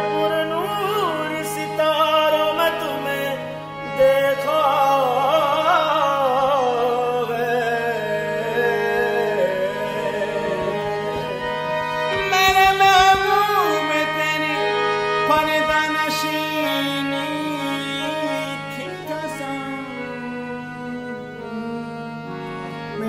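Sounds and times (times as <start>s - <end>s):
harmonium drone: 0.0s - 23.0s
man singing: 0.0s - 23.0s.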